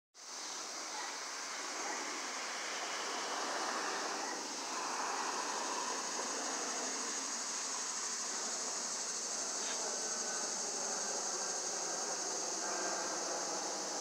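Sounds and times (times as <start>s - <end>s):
high-pitched hiss: 0.2s - 14.0s.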